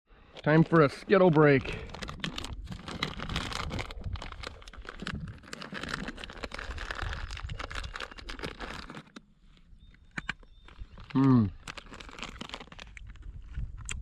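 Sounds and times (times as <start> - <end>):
plastic candy packet crinkling: 0.3 - 14.0.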